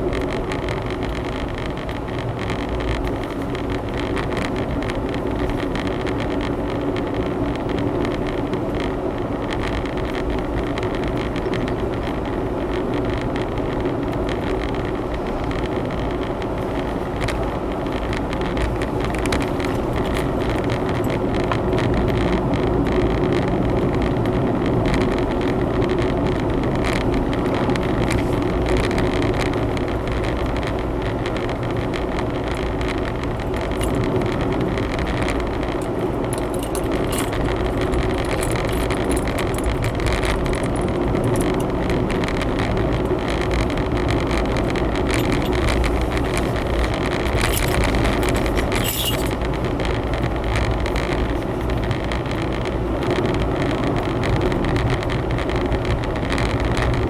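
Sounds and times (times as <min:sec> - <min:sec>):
car engine: 0:00.0 - 0:57.0
light clicks and rattles: 0:00.0 - 0:57.0
tyre road noise: 0:00.0 - 0:57.0.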